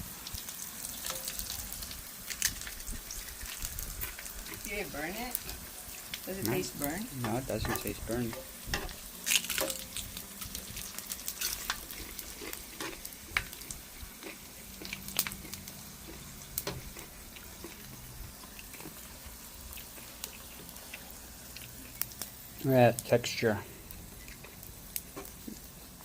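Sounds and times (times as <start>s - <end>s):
fish frying in hot oil: 0.0s - 26.0s
oil crackling and popping: 0.0s - 26.0s.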